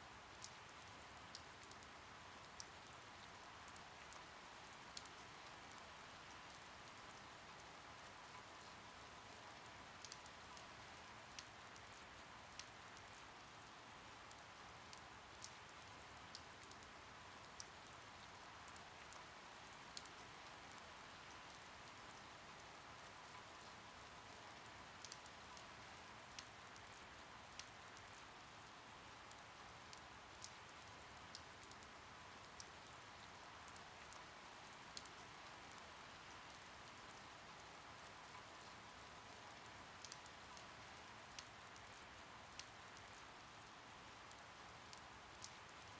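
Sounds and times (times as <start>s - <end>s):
faint steady rain: 0.0s - 45.9s.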